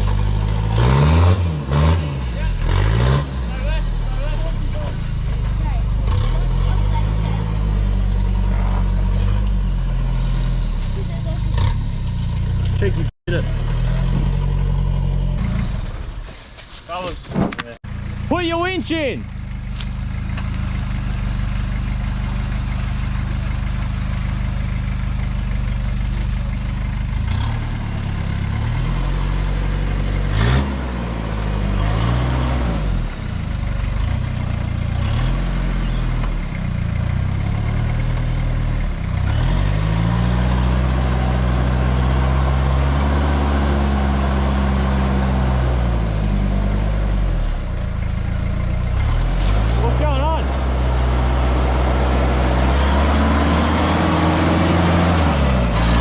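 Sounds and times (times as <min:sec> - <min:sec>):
truck engine idling and revving: 0:00.0 - 0:56.0.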